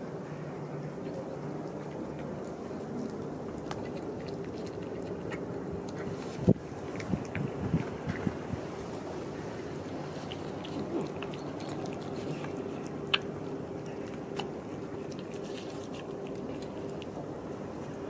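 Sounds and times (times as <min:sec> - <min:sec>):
cats chewing wet food: 0:00.0 - 0:18.0
steady low hum: 0:00.0 - 0:18.0.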